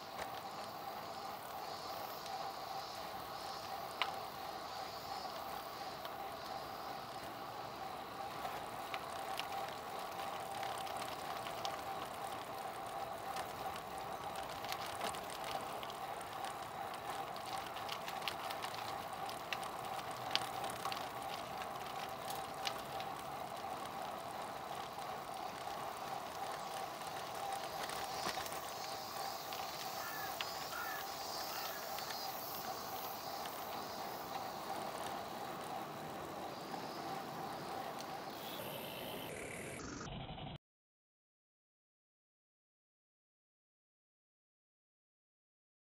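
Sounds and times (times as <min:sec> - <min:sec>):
bike rattling over bumps: 0:00.0 - 0:39.4
bike tyres rolling: 0:00.0 - 0:40.2.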